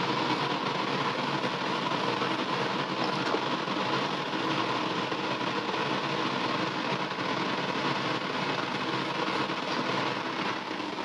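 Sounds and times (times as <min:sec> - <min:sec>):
gas wok burner roaring: 0:00.0 - 0:11.0.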